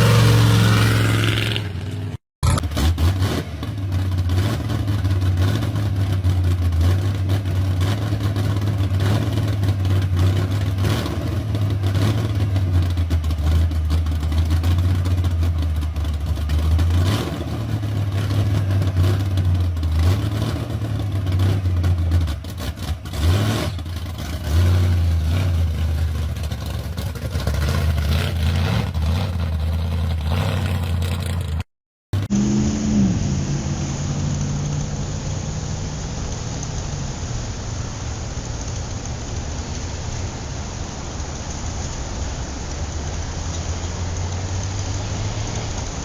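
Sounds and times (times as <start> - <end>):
car engine revving unevenly: 0.0 - 46.0.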